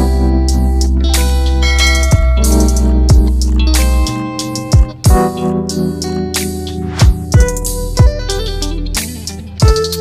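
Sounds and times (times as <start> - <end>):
guitar over bass line: 0.0 - 10.0.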